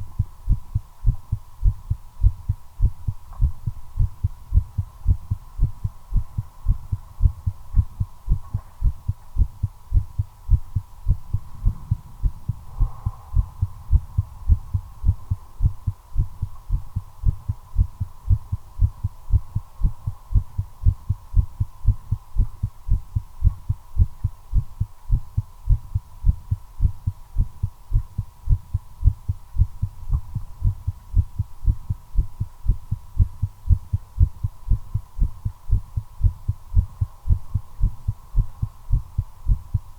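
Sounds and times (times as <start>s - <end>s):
faint steady hum: 0.0s - 39.9s
heart beating: 0.0s - 39.9s.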